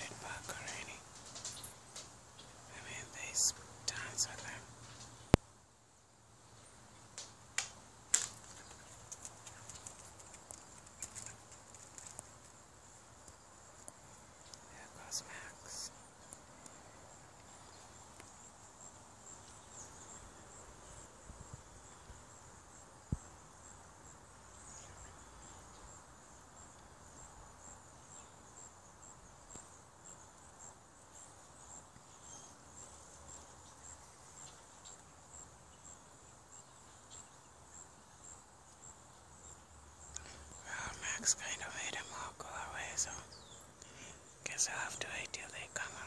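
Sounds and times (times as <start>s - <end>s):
insects chirping: 0.0s - 46.0s.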